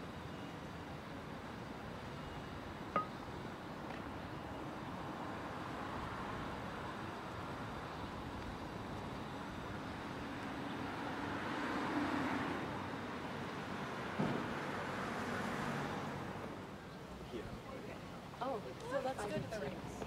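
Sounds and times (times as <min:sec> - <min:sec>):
city background hum: 0:00.0 - 0:20.0.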